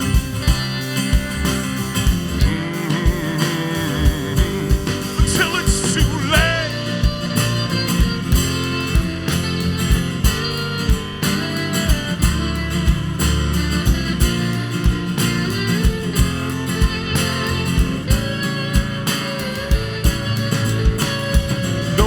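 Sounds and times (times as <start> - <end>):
drum beat: 0.0 - 13.3, 13.9 - 22.0
bass guitar: 0.0 - 22.0
guitar: 0.0 - 22.0.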